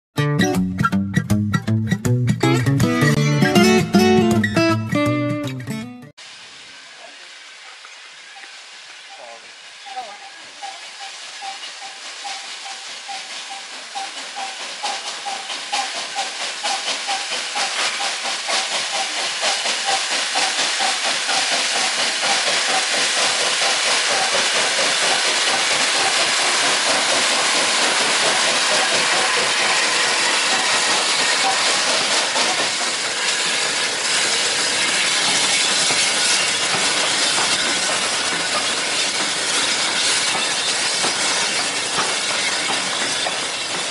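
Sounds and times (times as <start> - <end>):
hissing steam: 6.2 - 43.9
steam locomotive exhaust chuffs: 6.3 - 43.9.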